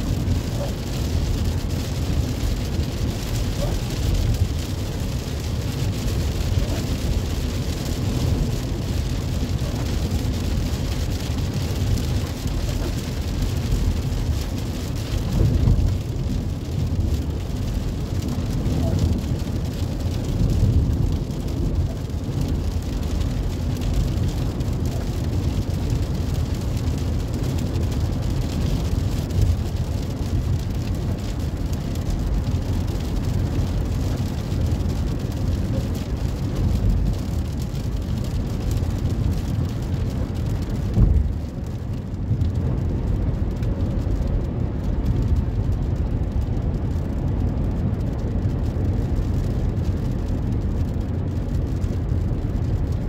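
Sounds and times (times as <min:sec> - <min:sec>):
engine and tyres rumbling: 0:00.0 - 0:53.0
rain and tyre spray hiss: 0:00.0 - 0:53.0.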